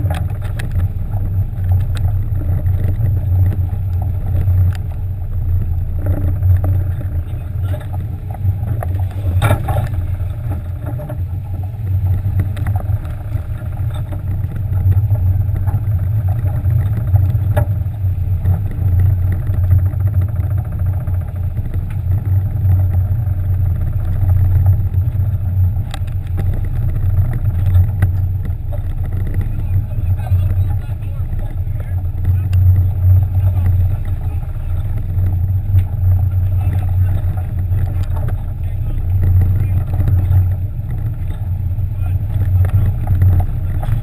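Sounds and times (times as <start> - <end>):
boat engines droning: 0.0 - 44.0.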